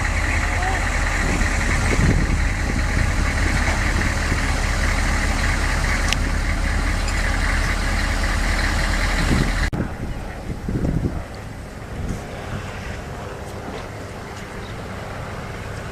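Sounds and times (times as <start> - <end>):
wind noise on microphone: 0.0 - 15.4
vehicle engine running: 0.0 - 15.9.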